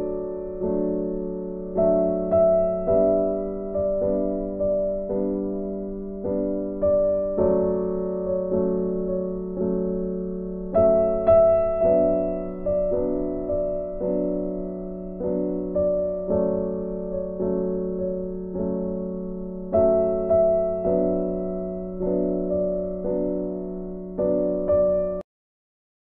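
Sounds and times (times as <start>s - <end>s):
piano music: 0.0s - 25.2s.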